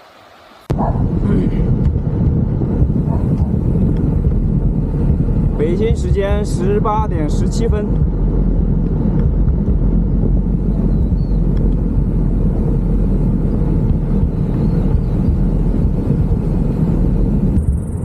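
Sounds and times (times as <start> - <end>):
wind buffeting microphone: 0.7 - 18.0.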